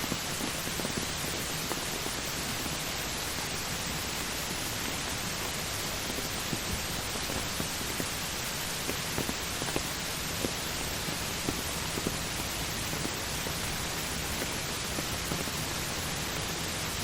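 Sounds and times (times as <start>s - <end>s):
heavy rain hiss: 0.0s - 17.0s.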